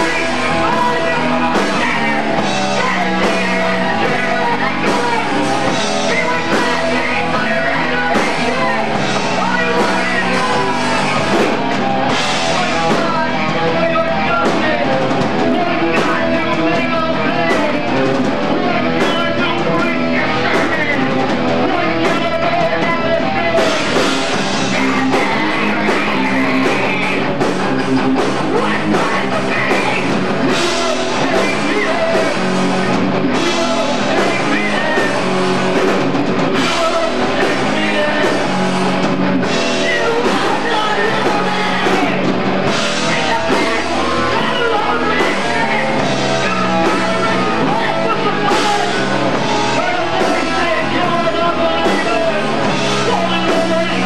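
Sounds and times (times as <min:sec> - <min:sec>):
punk band playing live: 0:00.0 - 0:54.0.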